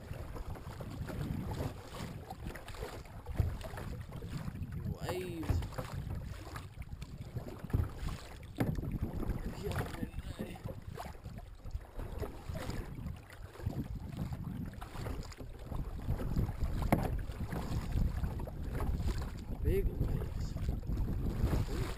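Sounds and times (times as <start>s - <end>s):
kayak paddle splashing: 0.0s - 21.9s
wind on microphone: 0.0s - 21.9s.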